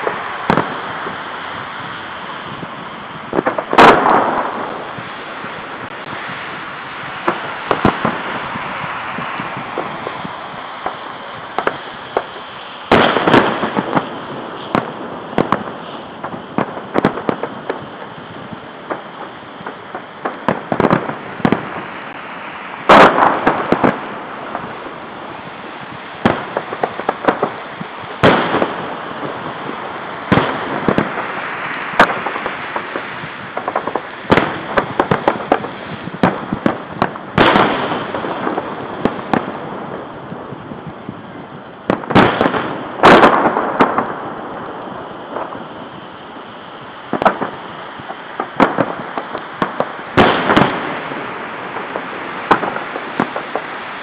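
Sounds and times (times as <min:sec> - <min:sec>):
fireworks bursting: 0:00.0 - 0:54.0
fireworks popping and crackling: 0:00.0 - 0:54.0.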